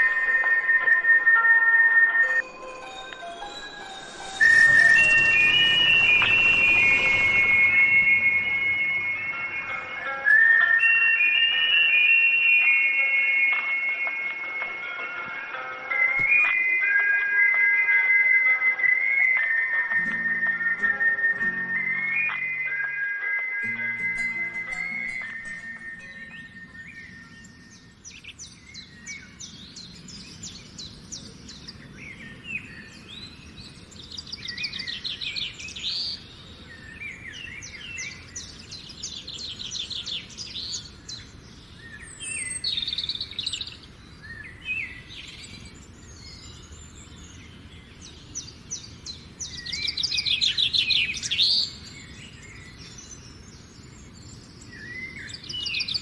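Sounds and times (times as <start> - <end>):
birds singing and calling: 0.0 - 12.9, 16.0 - 56.0.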